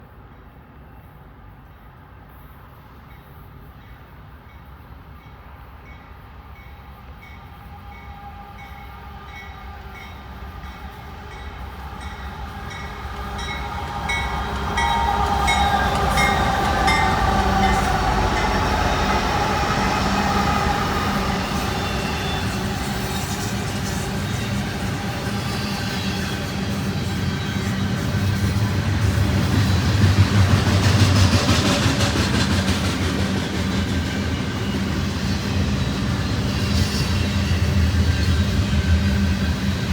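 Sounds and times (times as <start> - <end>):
diesel locomotive engine rumble: 5.0 - 39.9.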